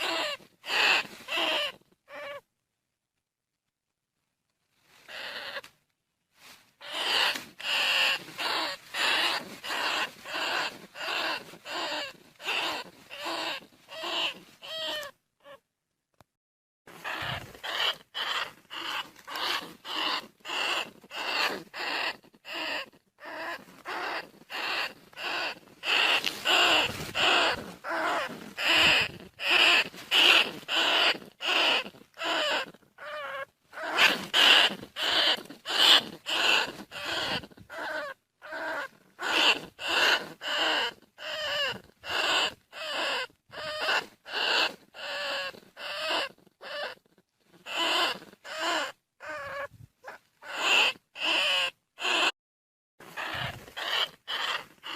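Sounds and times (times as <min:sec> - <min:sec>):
rat squeaky calls: 0:00.0 - 0:02.4, 0:05.1 - 0:05.7, 0:06.8 - 0:15.6, 0:17.0 - 0:47.0, 0:47.6 - 0:52.3, 0:53.1 - 0:54.9.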